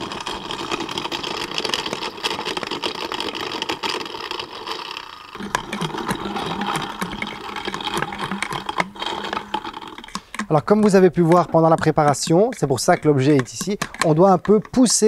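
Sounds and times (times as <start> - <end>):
blender crushing frozen fruit: 0.0 - 14.7.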